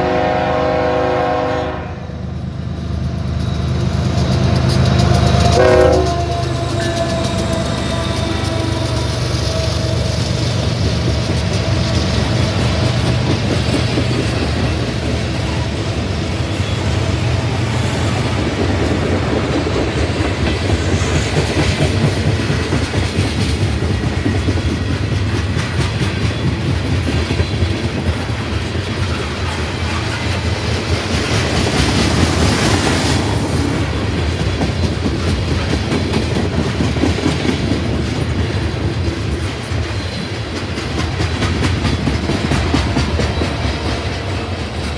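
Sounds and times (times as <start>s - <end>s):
freight train rumbling past: 0.0s - 44.9s
wheels clicking over rail joints: 2.8s - 44.9s.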